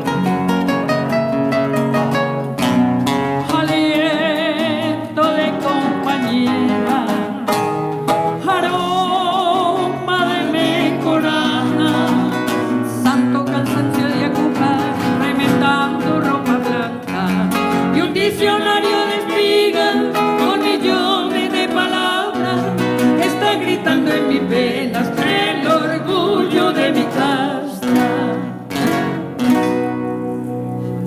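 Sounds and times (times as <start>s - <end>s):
acoustic guitar melody: 0.0s - 31.0s
strummed guitar accompaniment: 0.0s - 31.0s.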